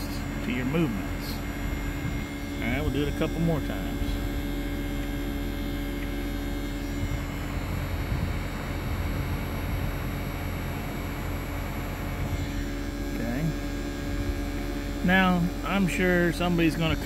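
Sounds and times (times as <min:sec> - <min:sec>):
compressor hum: 0:00.0 - 0:17.0
fan air rush: 0:00.0 - 0:17.0.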